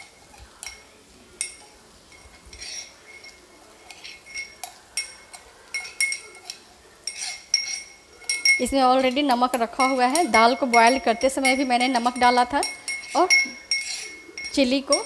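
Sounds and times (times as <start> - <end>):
light kitchen clinks and taps: 0.0 - 15.0.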